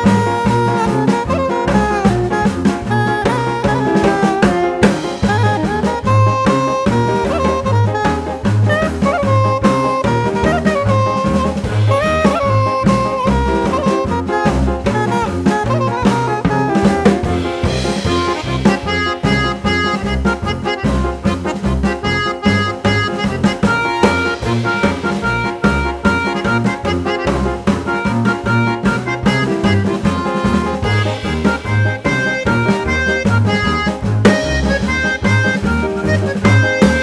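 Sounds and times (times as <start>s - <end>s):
drum kit steady beat: 0.0s - 37.0s
horn melody: 0.0s - 37.0s
walking bass: 0.0s - 37.0s.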